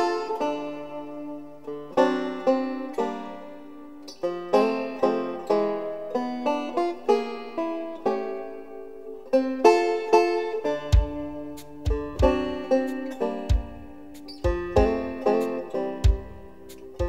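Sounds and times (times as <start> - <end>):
plucked banjo-like string music: 0.0 - 17.0.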